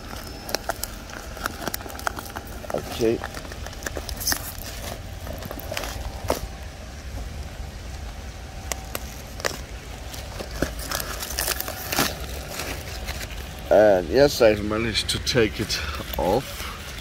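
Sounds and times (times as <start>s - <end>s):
tape and label being peeled: 0.0s - 14.0s, 15.5s - 17.0s
low steady rumble: 0.0s - 17.0s.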